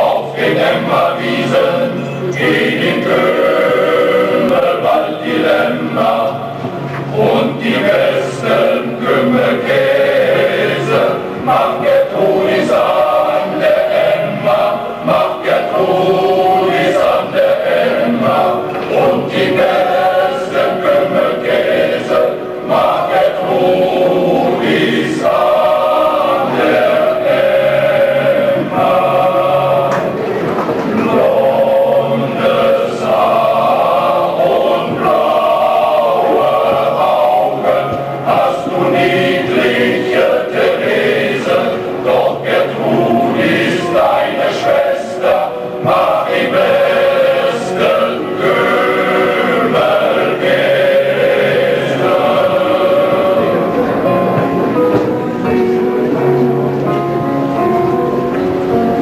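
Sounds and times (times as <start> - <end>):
keyboard accompaniment: 0.0 - 59.0
men's choir singing: 0.0 - 59.0.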